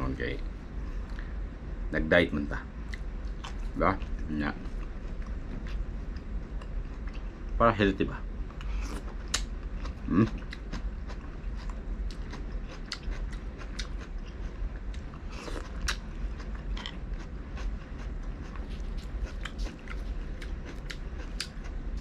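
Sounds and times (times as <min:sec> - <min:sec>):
steady low hum: 0:00.0 - 0:22.0
person chewing food: 0:02.8 - 0:07.4, 0:08.5 - 0:22.0.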